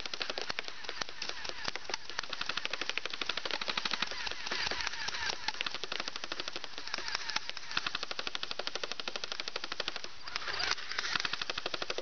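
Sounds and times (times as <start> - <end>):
airsoft gun firing full auto: 0.0 - 12.0.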